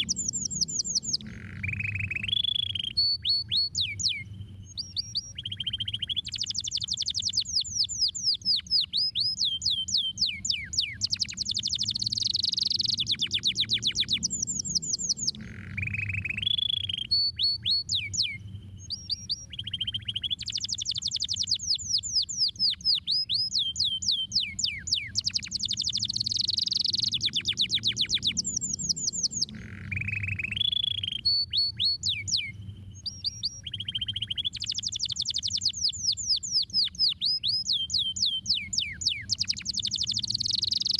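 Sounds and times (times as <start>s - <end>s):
canary singing trills: 0.0s - 40.9s
faint low hum: 0.0s - 40.9s.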